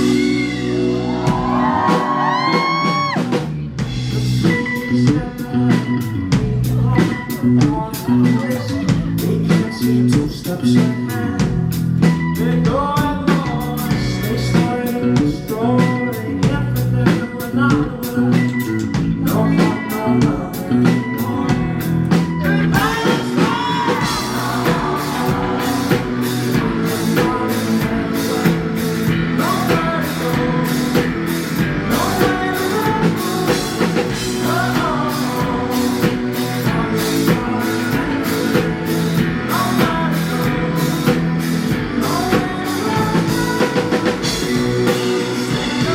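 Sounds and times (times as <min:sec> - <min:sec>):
person singing: 0:00.0 - 0:45.9
rock band playing live: 0:00.0 - 0:45.9.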